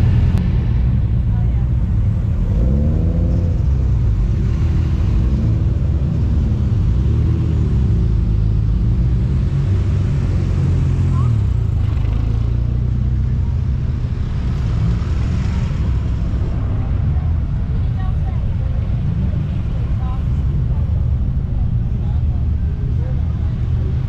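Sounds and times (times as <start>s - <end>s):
car engines rumbling and revving: 0.0s - 24.0s.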